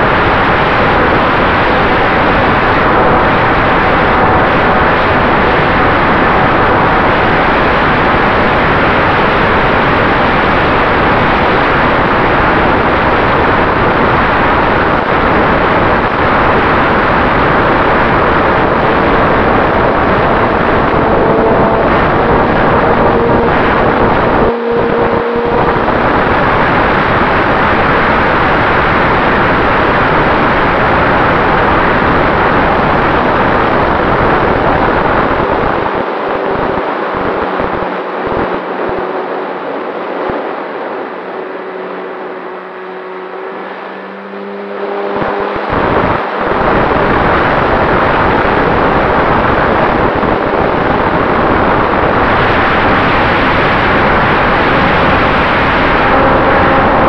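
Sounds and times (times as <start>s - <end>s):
low steady hum: 0.0s - 57.0s
propeller and wind rush: 0.0s - 57.0s.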